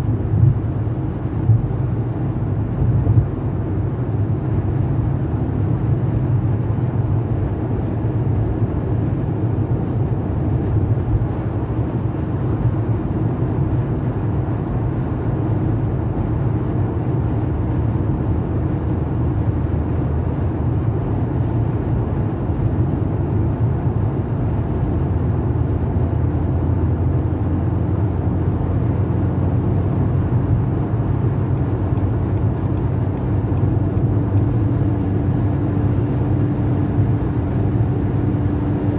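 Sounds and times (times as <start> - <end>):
car interior road noise: 0.0 - 38.9.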